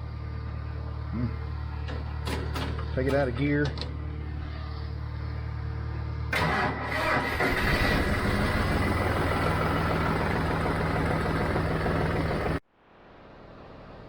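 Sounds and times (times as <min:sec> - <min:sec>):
tractor diesel engine running: 0:00.0 - 0:12.6.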